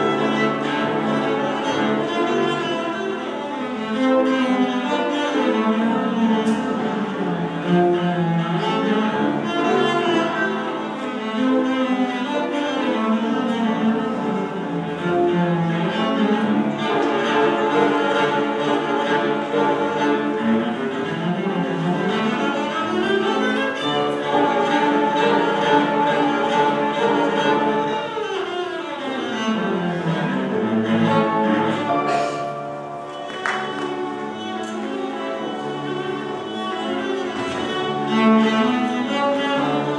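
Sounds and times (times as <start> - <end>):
bowed cello melody: 0.0 - 39.9.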